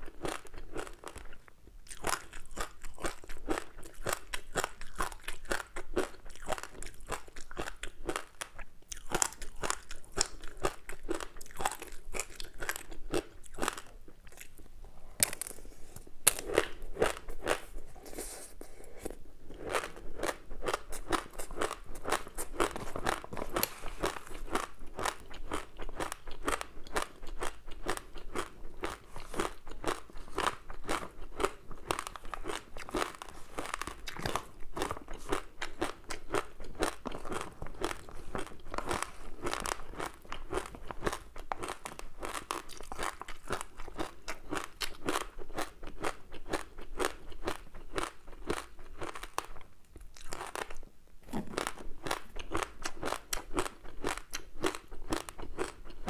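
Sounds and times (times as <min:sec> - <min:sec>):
crunchy snack chewing: 0:00.0 - 0:56.0.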